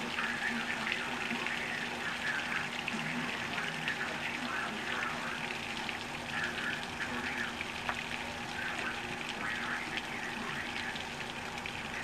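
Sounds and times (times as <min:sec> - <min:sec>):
faint low hum: 0:00.0 - 0:12.0
heavy rain pouring: 0:00.0 - 0:12.0.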